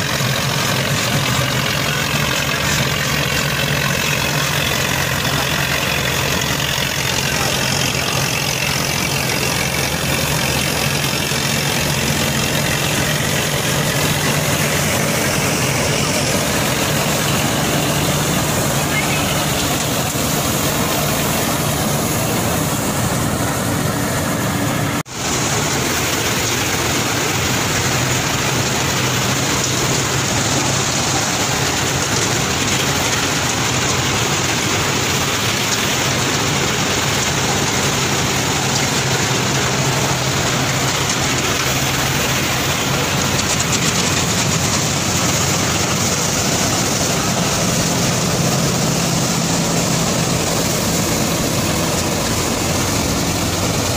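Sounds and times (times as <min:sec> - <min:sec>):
tractor engine: 0:00.0 - 0:53.9.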